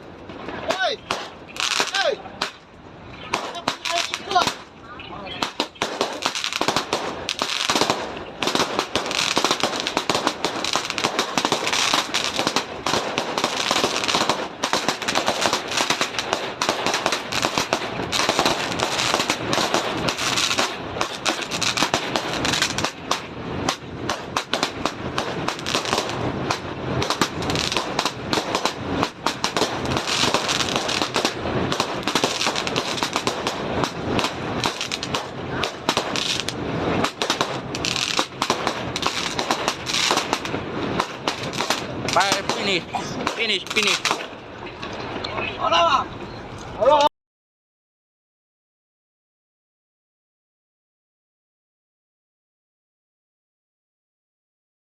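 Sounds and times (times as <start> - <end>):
firecrackers crackling: 0.0 - 45.7.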